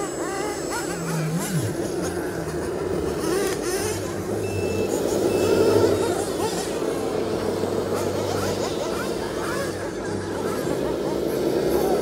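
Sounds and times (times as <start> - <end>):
toy truck engine hum: 0.0 - 12.0.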